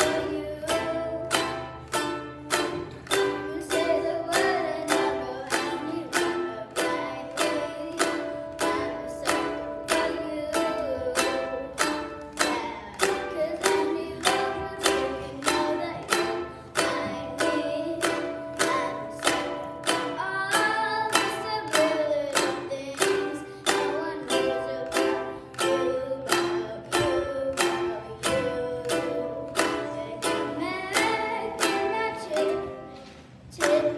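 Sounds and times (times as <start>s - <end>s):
ukulele strumming: 0.0s - 33.9s.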